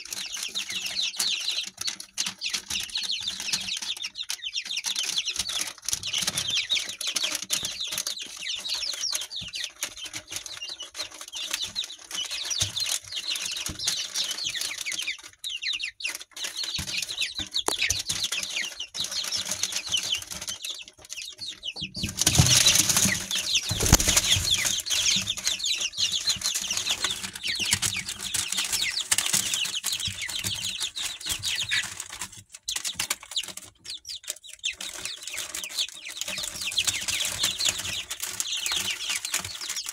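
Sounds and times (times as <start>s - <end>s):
chicks peeping: 0.0s - 39.9s
wings flapping and scuffling: 0.0s - 39.9s.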